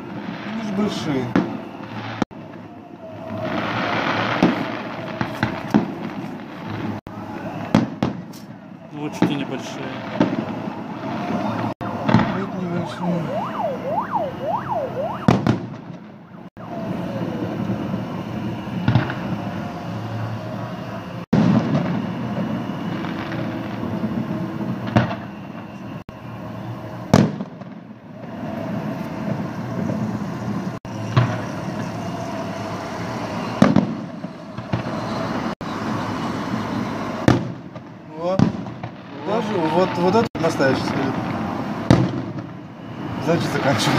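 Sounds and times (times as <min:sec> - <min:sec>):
outdoor din: 0:00.0 - 0:43.9.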